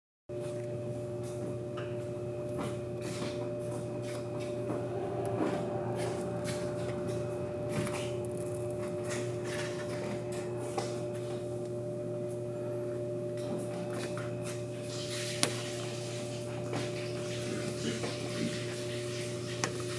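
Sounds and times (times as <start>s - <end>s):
steady hum: 0.4s - 19.9s.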